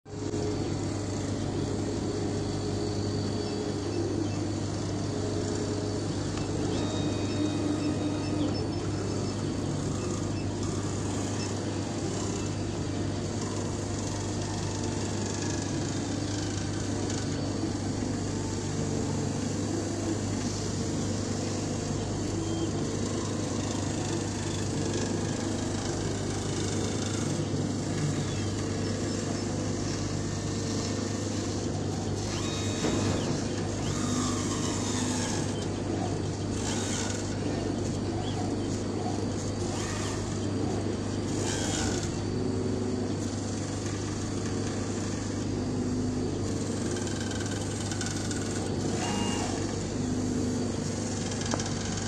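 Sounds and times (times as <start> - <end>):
laser cutter humming and whirring: 0.1 - 52.0.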